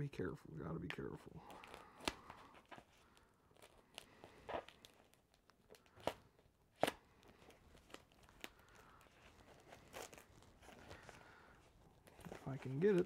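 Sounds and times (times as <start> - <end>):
foam wrap crinkling: 1.4 - 13.0
packing tape ripping off: 1.5 - 13.0.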